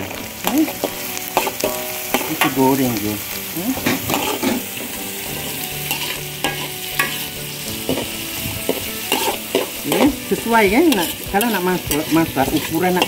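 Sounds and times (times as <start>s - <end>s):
metal spatula scraping wok: 0.0s - 13.0s
vegetables sizzling in oil: 0.0s - 13.0s.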